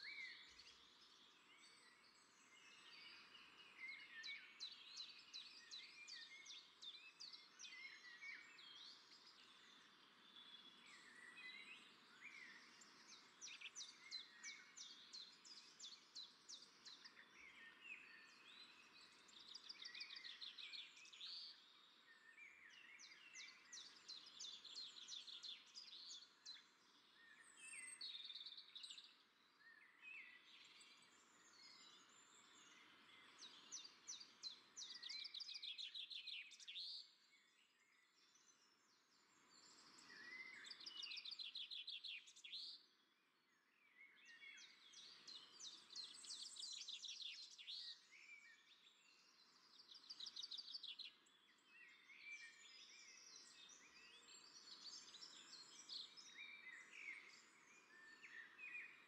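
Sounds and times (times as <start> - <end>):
small birds chirping and trilling: 0.0 - 59.0.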